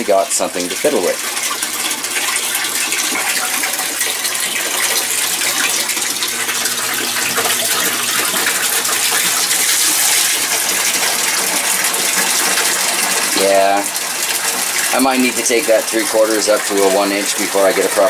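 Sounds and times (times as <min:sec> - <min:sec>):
water draining rush: 0:00.0 - 0:18.0.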